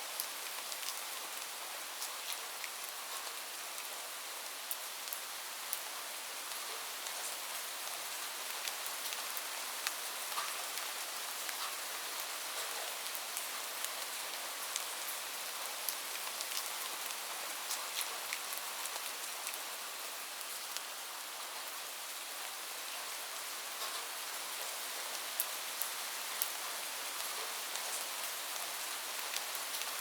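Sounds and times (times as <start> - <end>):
steady rain hiss: 0.0 - 30.0
raindrops ticking on a surface: 0.1 - 21.6, 23.7 - 30.0.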